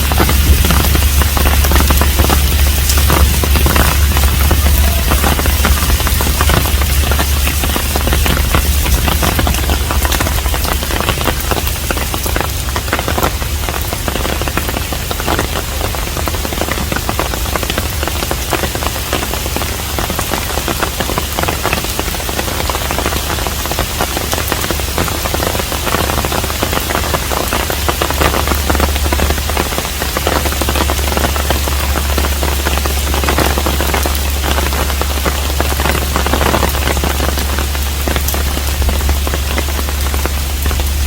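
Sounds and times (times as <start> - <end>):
low rumble: 0.0 - 41.0
rain falling on a roof: 0.0 - 41.0.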